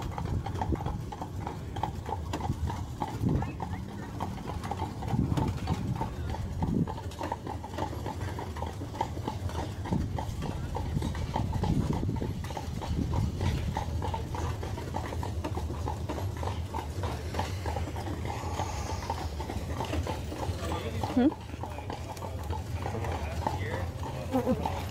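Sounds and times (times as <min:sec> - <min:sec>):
carriage rolling rumble: 0:00.0 - 0:24.9
hooves clip-clopping on pavement: 0:00.0 - 0:24.9.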